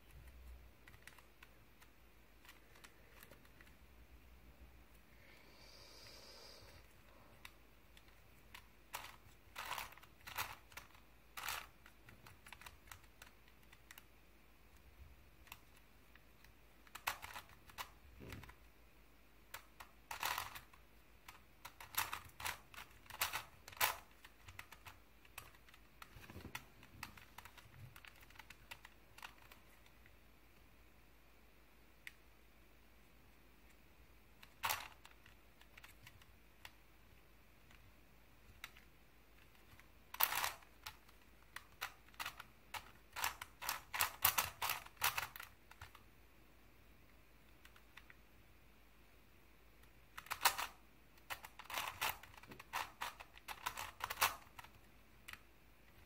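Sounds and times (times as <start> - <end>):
puzzle cube layers clicking: 0.0 - 4.3, 6.7 - 30.8, 33.6 - 46.1, 47.0 - 48.3, 49.6 - 56.0.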